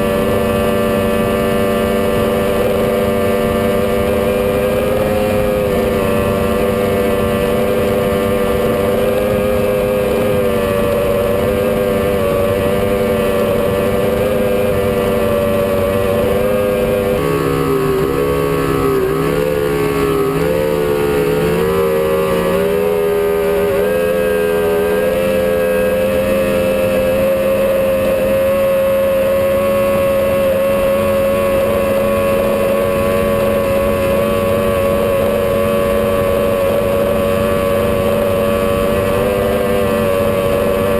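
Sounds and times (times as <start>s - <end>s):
powerboat engine running: 0.0s - 40.9s
rushing wind and water: 0.0s - 40.9s.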